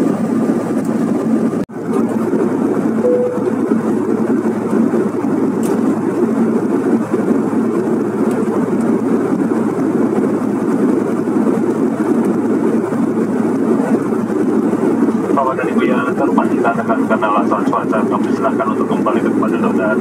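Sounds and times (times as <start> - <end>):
jet engine and airflow rush: 0.0 - 20.0.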